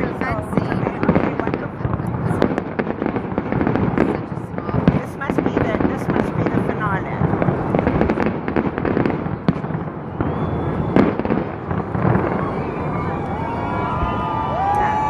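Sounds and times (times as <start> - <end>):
sharp firework bang: 0.0 - 13.1
fireworks booming: 0.0 - 15.0
fireworks crackling and popping: 0.0 - 15.0.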